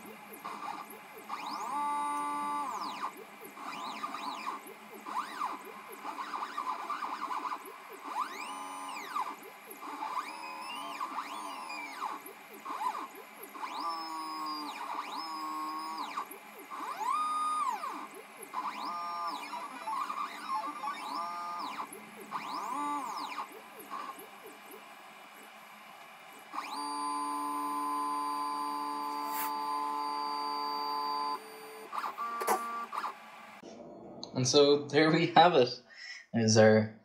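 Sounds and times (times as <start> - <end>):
stepper motors whining: 0.0 - 33.6.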